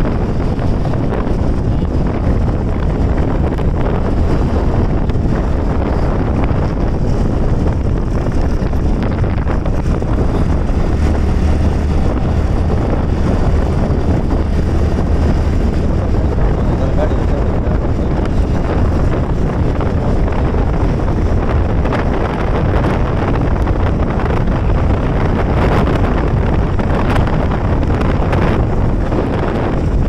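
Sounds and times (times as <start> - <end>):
motorcycle engine hum: 0.0 - 30.0
wind rushing over microphone: 0.0 - 30.0.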